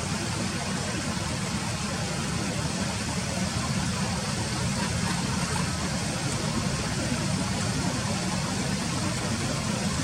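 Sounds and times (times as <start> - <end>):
steady low rumble with hiss: 0.0 - 10.0.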